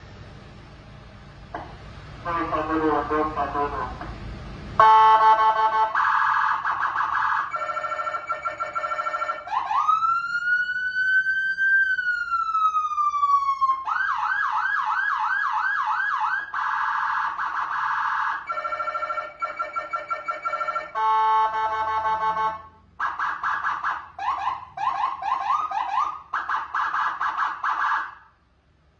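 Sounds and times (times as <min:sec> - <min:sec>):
electronic vehicle siren: 0:04.8 - 0:28.4.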